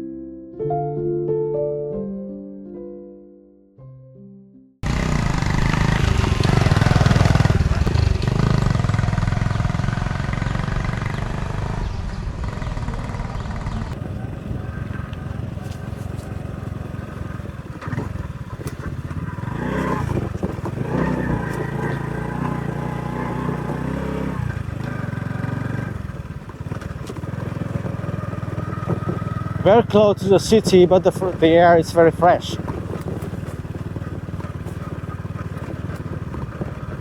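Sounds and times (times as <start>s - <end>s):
small motorbike engine running: 4.8s - 37.0s.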